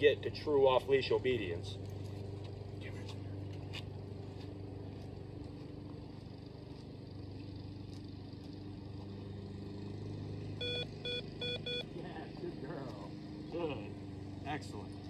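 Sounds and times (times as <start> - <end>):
engine running low hum: 0.0 - 15.0.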